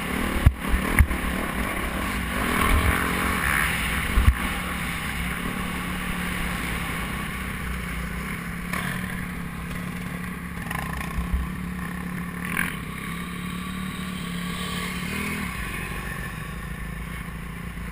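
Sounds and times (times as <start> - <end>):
motocross bike engine: 0.0 - 17.9.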